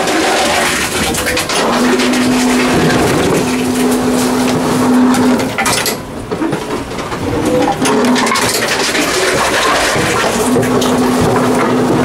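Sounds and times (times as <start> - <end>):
containers rattling and clattering: 0.0 - 12.0
steady motor hum: 0.0 - 12.0.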